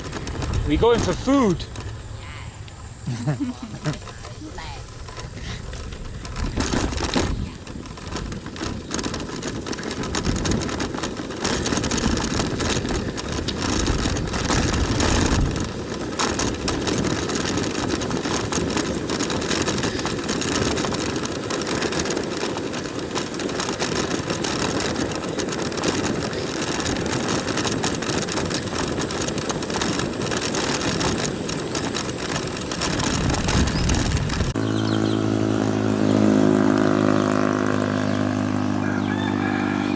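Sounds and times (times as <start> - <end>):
bicycle rattling over road: 0.0 - 39.9
wind buffeting microphone: 0.0 - 39.9.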